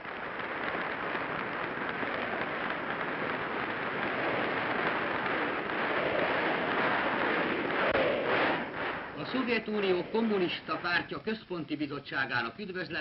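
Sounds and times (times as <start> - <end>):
large audience applauding: 0.0 - 11.1.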